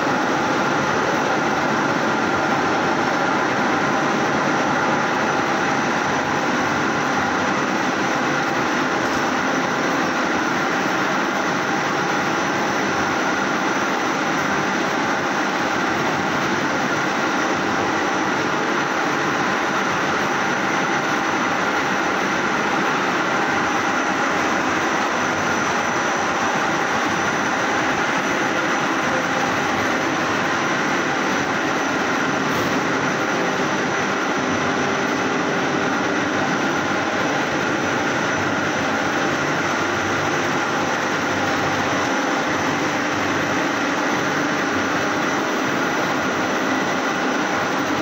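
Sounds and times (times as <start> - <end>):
laundry machinery running: 0.0 - 48.0.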